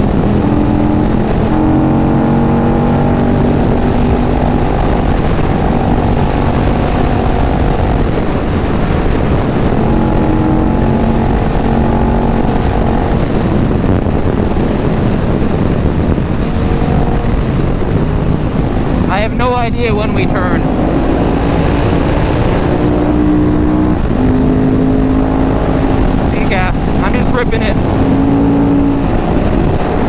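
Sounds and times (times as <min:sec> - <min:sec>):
motorcycle engine running: 0:00.0 - 0:30.0
wind rush: 0:00.0 - 0:30.0.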